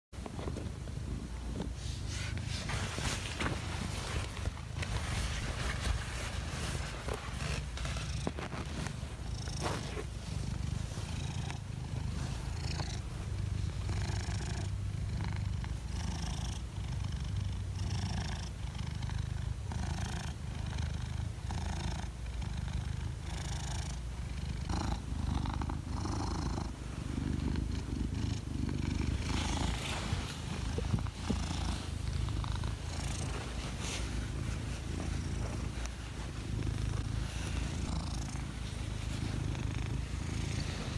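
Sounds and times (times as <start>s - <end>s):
cat purring: 0.2s - 40.9s
soft rustling: 0.2s - 40.9s.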